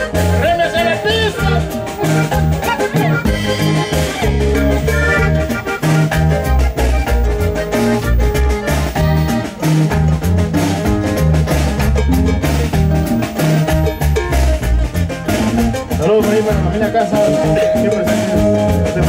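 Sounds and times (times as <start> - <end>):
button accordion: 0.0 - 15.9
bajo sexto strumming: 0.0 - 19.0
drum kit: 0.0 - 19.0
electric bass: 0.0 - 19.0.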